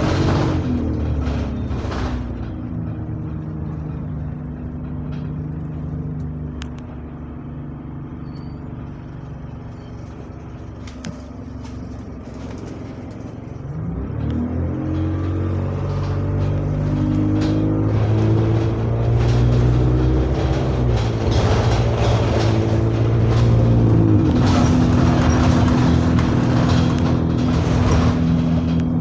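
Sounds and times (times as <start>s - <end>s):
bus engine: 0.0s - 29.0s.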